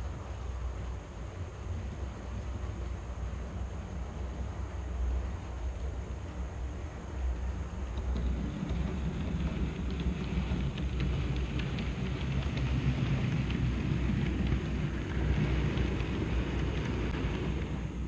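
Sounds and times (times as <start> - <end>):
train rumbling: 0.0 - 18.0
wheels ticking over track: 0.0 - 18.0.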